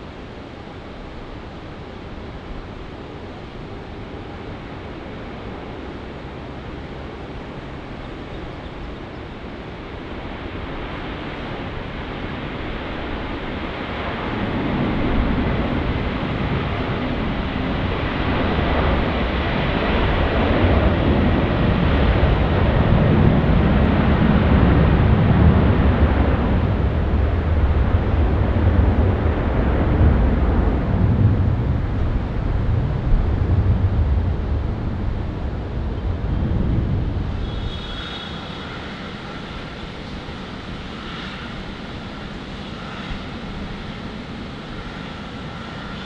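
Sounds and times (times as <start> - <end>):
jet engines at takeoff: 0.0 - 46.0.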